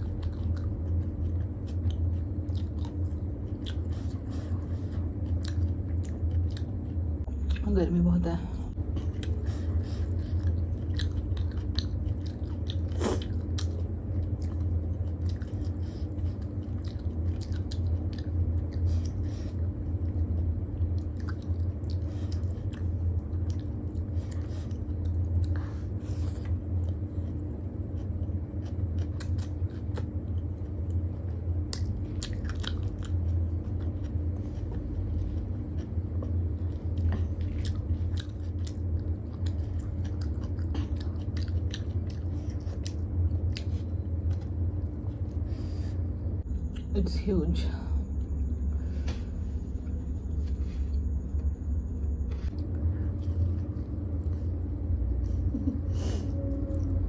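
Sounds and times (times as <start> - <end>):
close chewing and mouth sounds: 0.0 - 7.8, 8.8 - 46.9, 52.4 - 55.8
steady low hum: 0.0 - 57.0.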